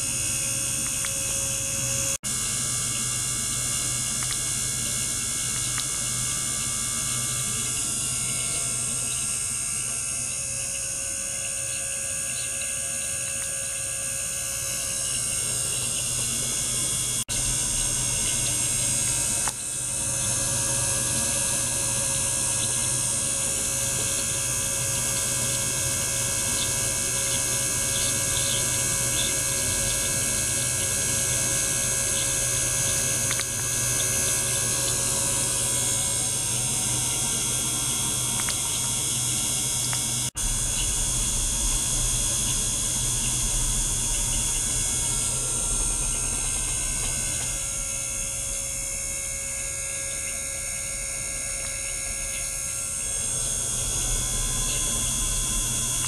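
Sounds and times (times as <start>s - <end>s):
small water pump humming: 0.0s - 56.0s.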